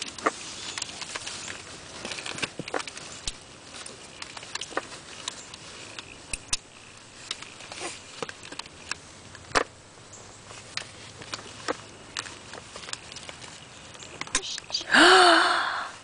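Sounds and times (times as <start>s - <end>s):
seat belt strap rustling: 0.0s - 14.8s.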